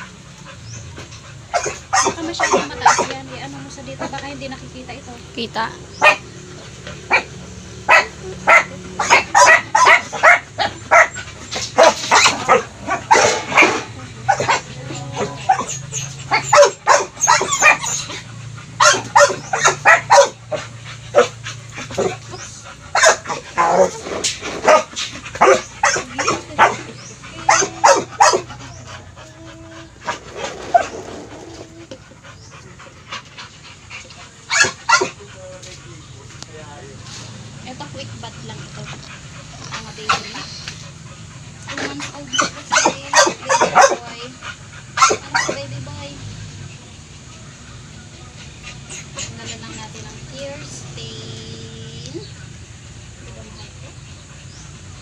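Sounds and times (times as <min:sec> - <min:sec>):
dogs barking: 0:00.0 - 0:04.9, 0:05.6 - 0:36.7, 0:37.3 - 0:55.0.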